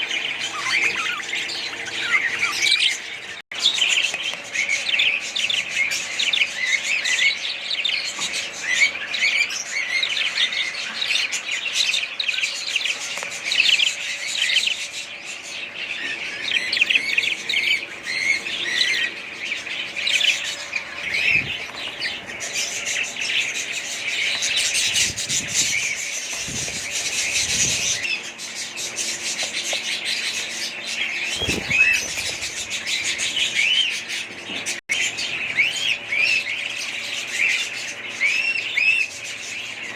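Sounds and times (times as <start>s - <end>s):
small birds chirping and chattering: 0.0s - 39.9s.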